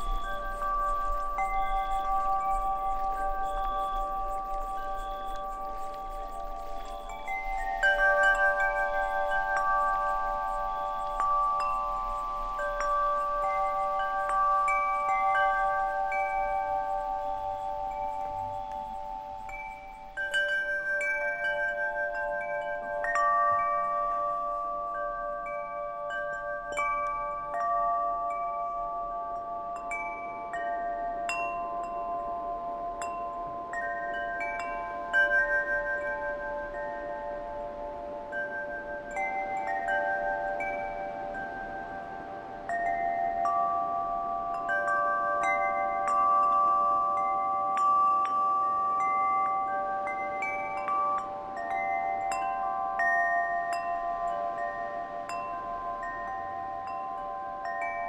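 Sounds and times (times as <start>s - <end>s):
chimes ringing: 0.0s - 58.0s.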